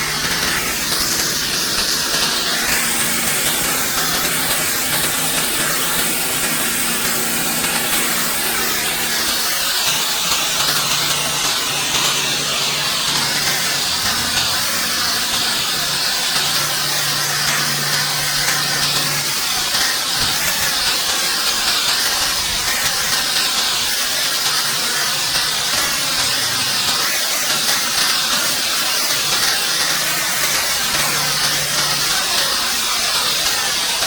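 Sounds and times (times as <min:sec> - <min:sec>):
pressure washer spraying concrete: 0:00.0 - 0:34.0.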